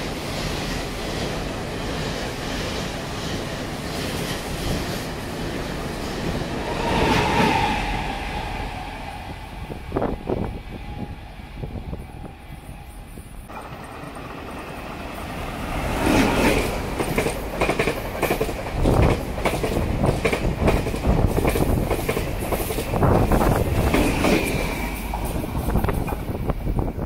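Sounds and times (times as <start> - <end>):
electric train passing at speed: 0.0 - 27.0.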